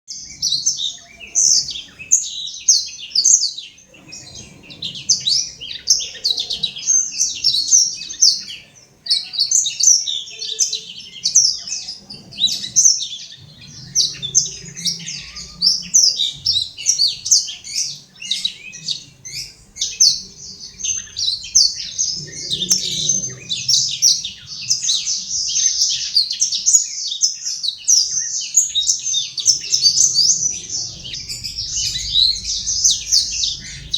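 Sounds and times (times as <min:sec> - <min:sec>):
canary twittering song: 0:00.1 - 0:33.9.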